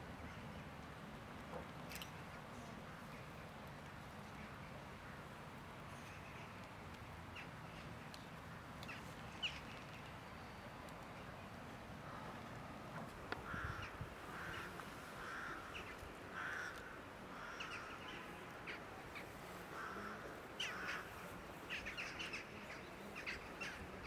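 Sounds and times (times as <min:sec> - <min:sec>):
faint steady background noise: 0:00.0 - 0:24.0.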